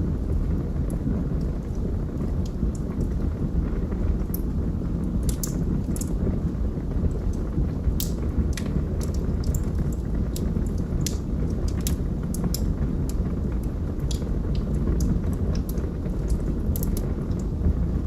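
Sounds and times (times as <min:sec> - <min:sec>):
low rumble of burning: 0:00.0 - 0:18.0
wood fire crackling and popping: 0:00.0 - 0:18.0.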